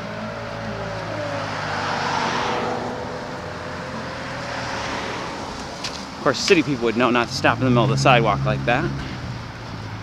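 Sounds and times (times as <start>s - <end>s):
car passing: 0.0s - 10.0s.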